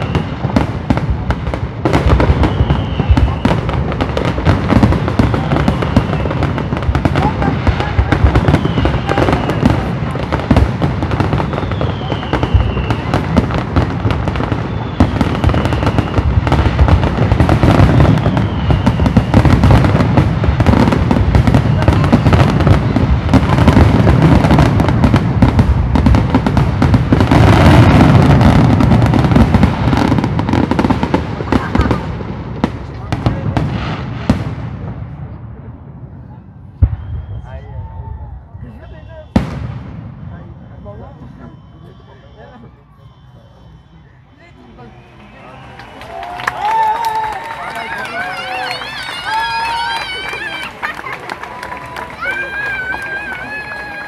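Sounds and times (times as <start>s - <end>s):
falling firework whistles: 0.0s - 1.1s, 1.9s - 34.3s, 36.7s - 54.0s
fireworks bursting: 0.0s - 54.0s.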